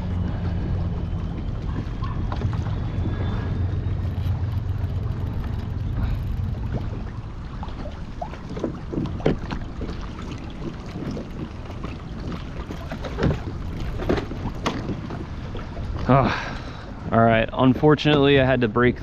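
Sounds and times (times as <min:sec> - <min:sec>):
water lapping at kayak hull: 0:00.0 - 0:19.0
wind buffeting microphone: 0:00.0 - 0:19.0.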